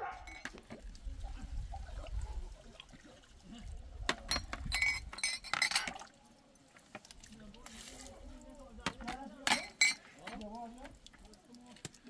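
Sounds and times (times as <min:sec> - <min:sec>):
water splashing from tap: 0:00.2 - 0:12.0.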